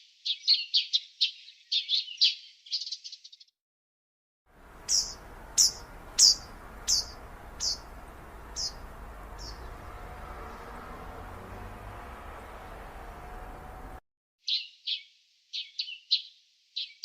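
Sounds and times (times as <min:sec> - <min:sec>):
bird chirping: 0:00.0 - 0:03.5, 0:04.6 - 0:17.0.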